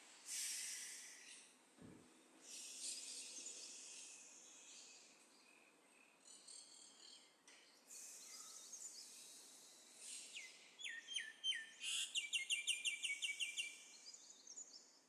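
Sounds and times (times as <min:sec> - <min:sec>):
bird singing: 0:02.4 - 0:15.0.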